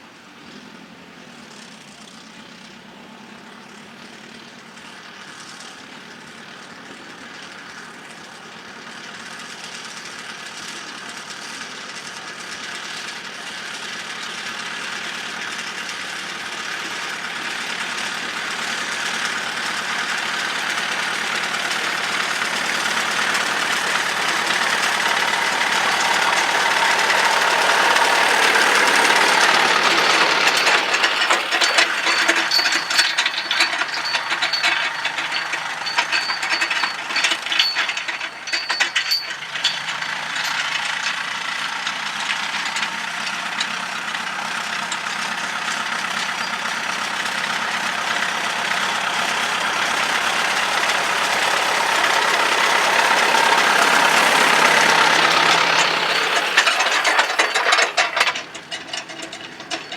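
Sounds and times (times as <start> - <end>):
tractor engine running: 3.5 - 59.9.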